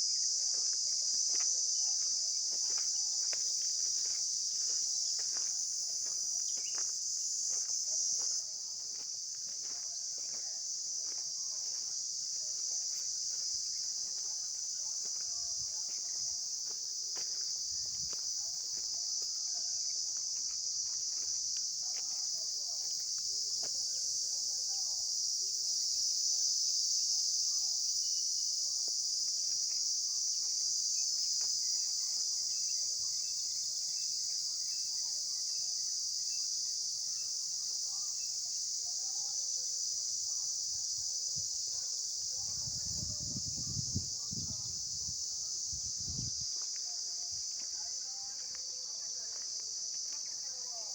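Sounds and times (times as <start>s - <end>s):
shrill insect chorus: 0.0s - 50.9s.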